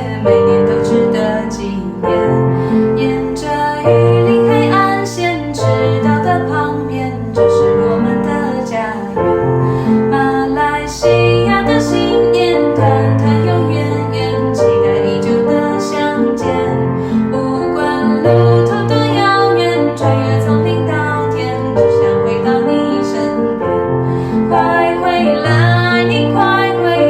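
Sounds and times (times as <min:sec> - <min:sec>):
woman singing gentle melody: 0:00.0 - 0:09.4, 0:10.0 - 0:23.6, 0:24.4 - 0:27.0
piano accompaniment: 0:00.0 - 0:27.0.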